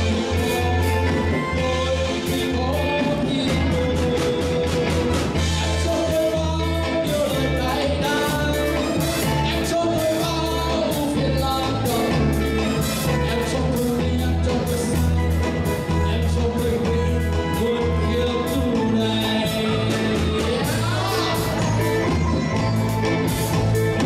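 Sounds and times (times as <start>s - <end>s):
man singing into microphone: 0.0s - 22.2s
bass guitar: 0.0s - 24.0s
drum kit beat: 0.0s - 24.0s
electric guitar: 0.0s - 24.0s
keyboard: 0.0s - 24.0s.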